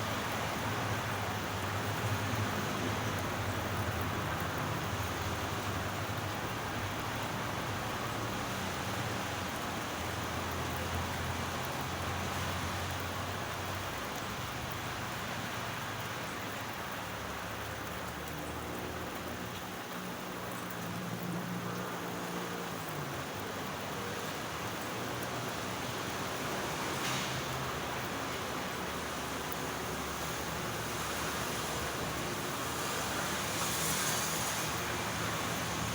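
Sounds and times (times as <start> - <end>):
rain pattering on surfaces: 0.0 - 35.9.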